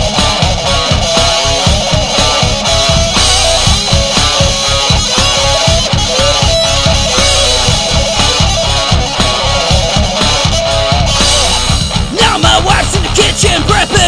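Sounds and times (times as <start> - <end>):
lead guitar bending notes: 0.0 - 14.0
rhythm guitar: 0.0 - 14.0
steady kick drum: 0.0 - 14.0.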